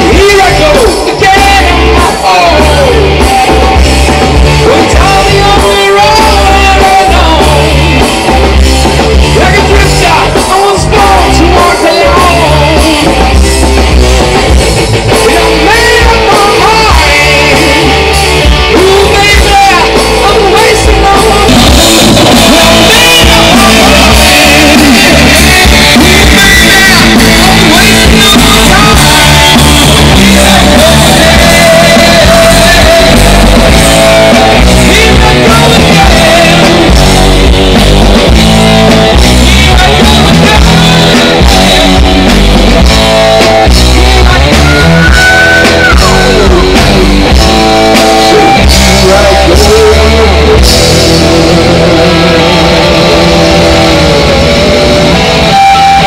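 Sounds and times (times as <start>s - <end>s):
person singing: 0.0s - 8.5s, 9.3s - 13.4s, 15.2s - 42.8s, 43.6s - 56.0s
bass guitar: 0.0s - 56.0s
drums: 0.0s - 56.0s
electric guitars: 0.0s - 56.0s.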